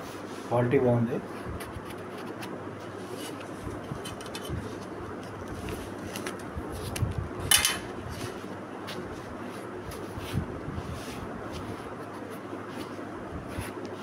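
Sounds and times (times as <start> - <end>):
plastic sheet rustling: 1.3 - 14.0.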